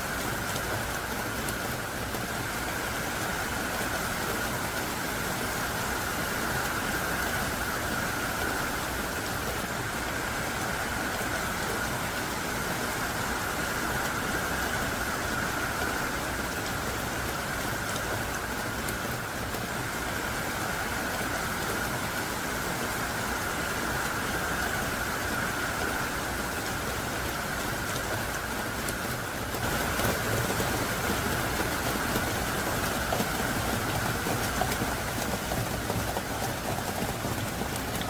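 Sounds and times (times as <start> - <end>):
heavy rain downpour: 0.0 - 38.0.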